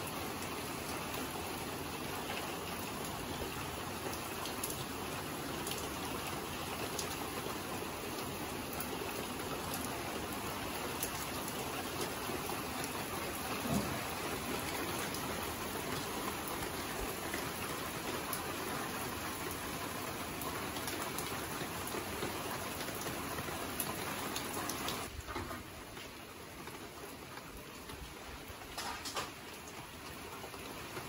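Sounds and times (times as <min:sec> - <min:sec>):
rain falling steadily: 0:00.0 - 0:31.0.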